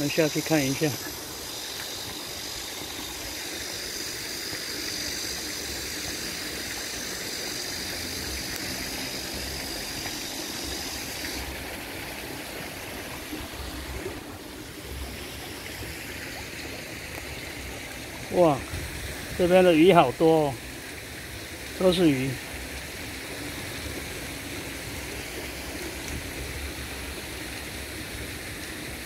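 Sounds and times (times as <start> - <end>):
high insect drone: 0.0 - 29.0
water splashing into a pond: 0.0 - 29.0.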